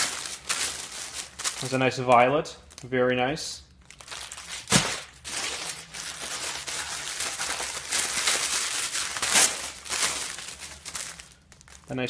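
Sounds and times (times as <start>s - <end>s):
plastic and paper rustling: 0.0s - 3.0s, 3.7s - 12.0s.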